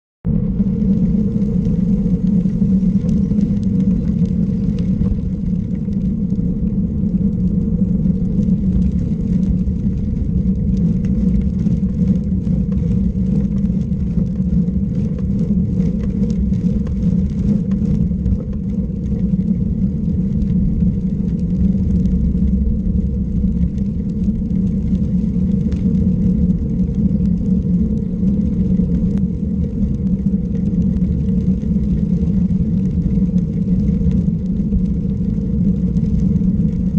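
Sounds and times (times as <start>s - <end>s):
low road rumble: 0.2s - 36.9s.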